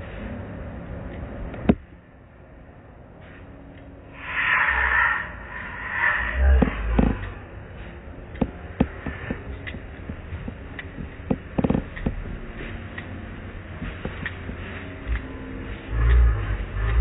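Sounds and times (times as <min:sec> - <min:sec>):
car wash machinery rumble: 0:00.0 - 0:17.0.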